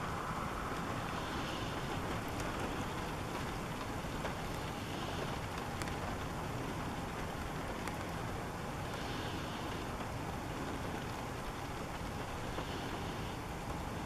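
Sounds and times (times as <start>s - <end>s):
rain: 0.0s - 14.0s
wind: 0.0s - 14.0s.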